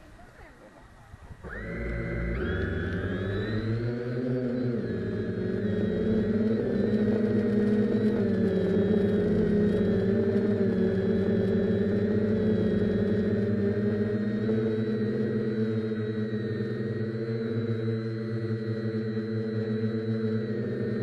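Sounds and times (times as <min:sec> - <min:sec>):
drone propellers whining: 0:00.8 - 0:21.0.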